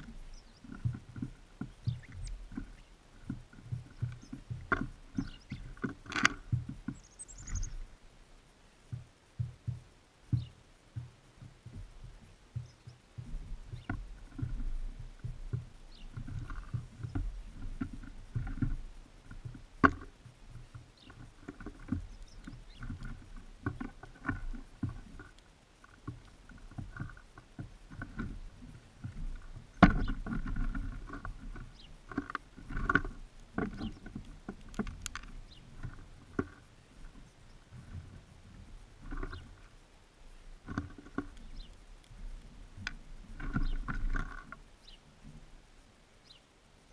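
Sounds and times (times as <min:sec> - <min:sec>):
birds pecking at a seed feeder: 0:00.0 - 0:08.0, 0:08.8 - 0:45.6.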